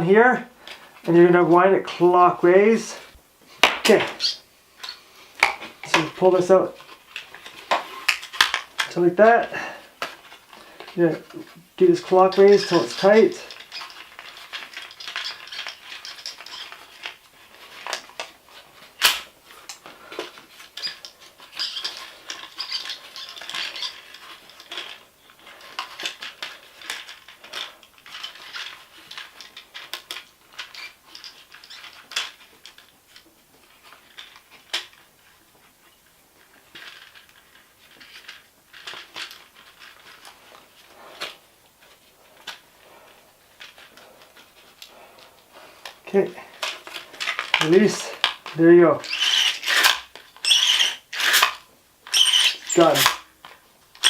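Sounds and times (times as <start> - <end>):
small plastic parts rattling: 3.6 - 35.3, 35.9 - 54.0.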